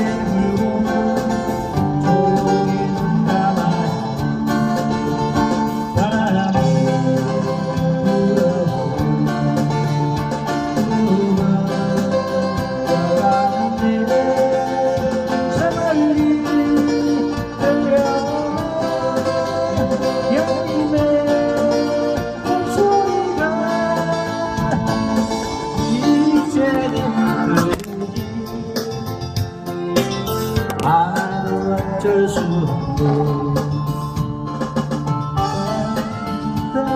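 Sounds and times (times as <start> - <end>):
guitar melody: 0.0 - 36.9.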